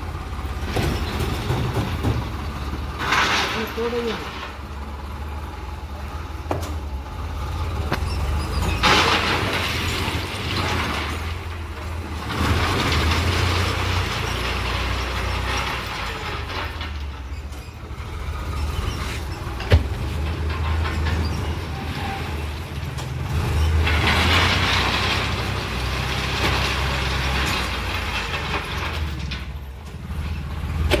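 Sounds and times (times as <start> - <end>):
tractor diesel engine rumbling: 0.0 - 31.0.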